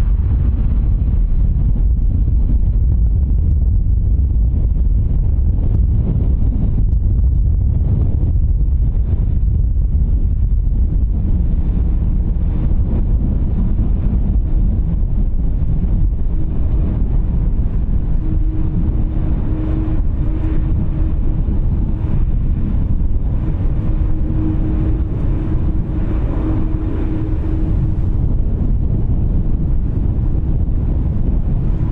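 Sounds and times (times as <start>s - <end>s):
jet engines rumbling: 0.0s - 31.9s
steady hum: 0.0s - 31.9s
wind buffeting microphone: 0.0s - 31.9s.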